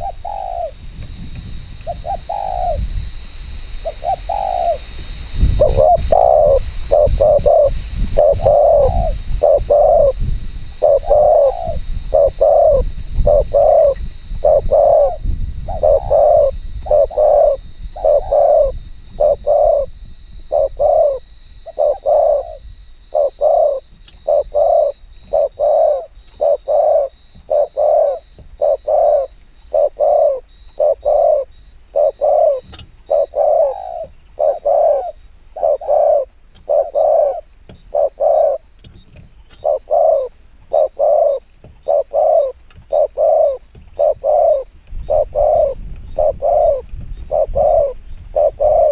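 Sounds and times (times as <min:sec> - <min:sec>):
dove cooing rapidly: 0:00.0 - 0:03.2, 0:03.8 - 0:48.9.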